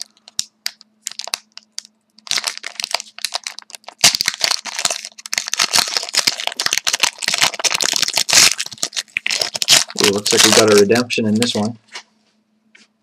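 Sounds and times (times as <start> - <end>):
card pack wrapper crinkling: 0.0 - 11.8.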